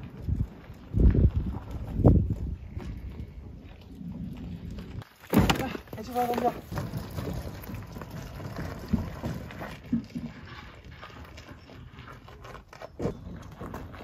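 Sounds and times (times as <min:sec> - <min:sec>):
hand cart rolling over gravel: 0:00.0 - 0:14.0.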